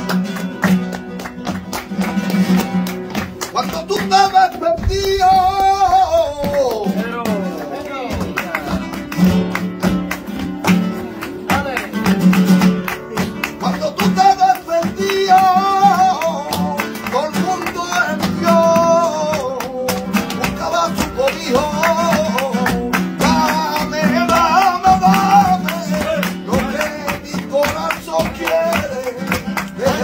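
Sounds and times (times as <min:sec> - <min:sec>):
acoustic guitar plucking: 0:00.0 - 0:30.0
person singing flamenco: 0:00.0 - 0:30.0.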